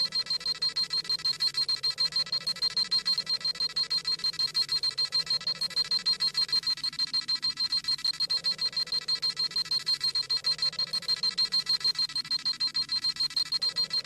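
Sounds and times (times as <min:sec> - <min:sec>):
rapid high-pitched electronic beeping: 0:00.0 - 0:14.0.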